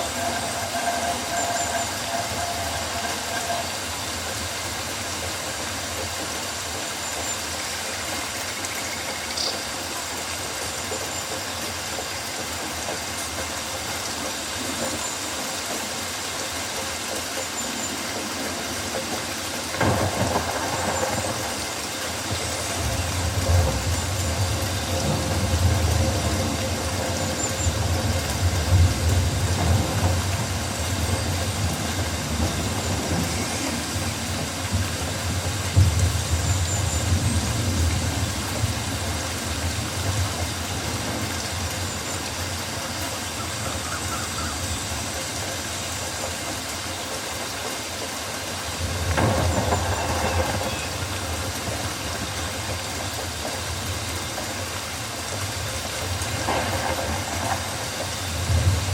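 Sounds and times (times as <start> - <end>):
rain hiss: 0.0 - 58.9.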